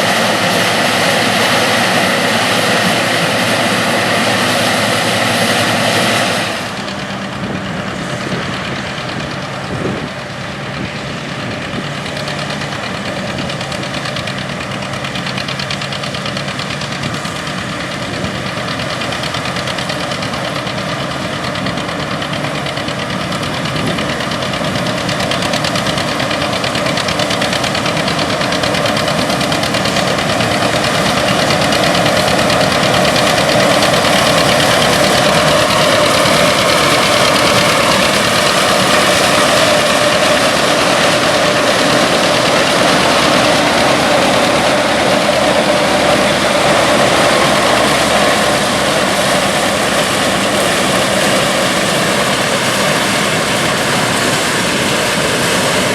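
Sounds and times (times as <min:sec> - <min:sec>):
combine harvester engines droning: 0:00.0 - 0:55.9
machine engine: 0:00.0 - 0:55.9.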